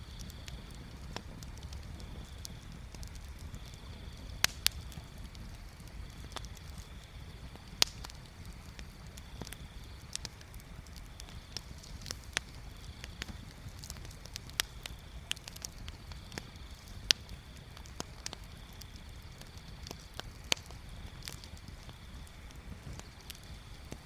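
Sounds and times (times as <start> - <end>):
bonfire crackling: 0.0 - 24.0.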